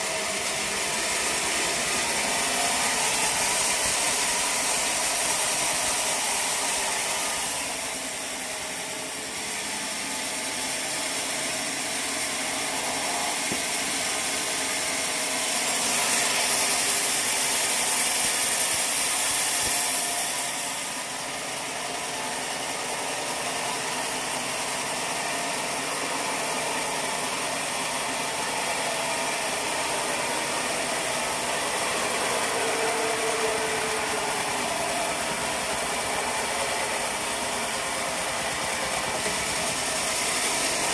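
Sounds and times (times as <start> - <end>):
saw cutting through wood: 0.0 - 40.9
sawmill machinery running: 0.0 - 40.9.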